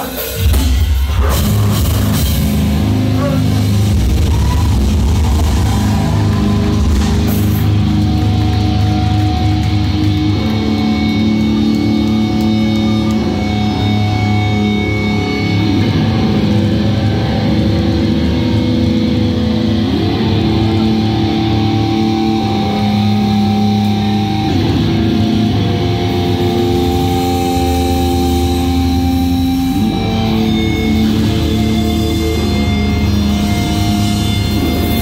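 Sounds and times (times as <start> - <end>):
distorted guitar chords: 0.0 - 35.0.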